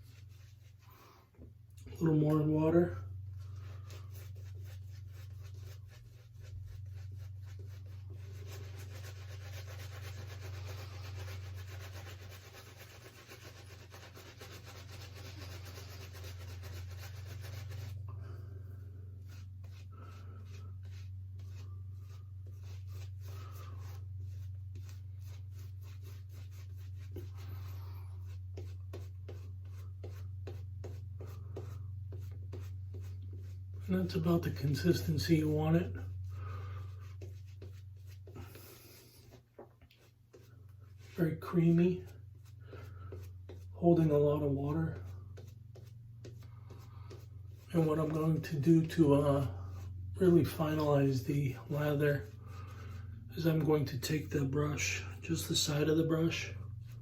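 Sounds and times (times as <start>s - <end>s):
shaving brush scrubbing lather: 0.0s - 1.1s, 1.8s - 57.0s
steady low hum: 0.0s - 57.0s.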